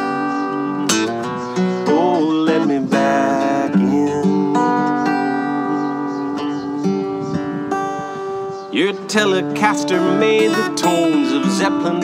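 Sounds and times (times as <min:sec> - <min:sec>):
acoustic guitar strummed and picked: 0:00.0 - 0:12.0.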